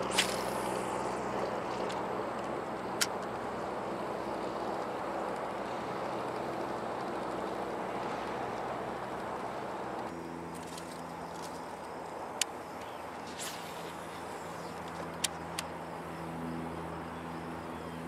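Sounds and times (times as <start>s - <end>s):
outboard motor running: 0.0s - 18.0s
wind and water noise: 0.0s - 18.0s.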